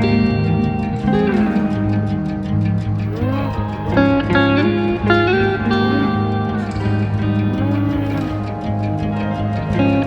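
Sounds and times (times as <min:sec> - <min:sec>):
guitar music with sliding notes: 0:00.0 - 0:10.0
steady bass: 0:00.0 - 0:10.0.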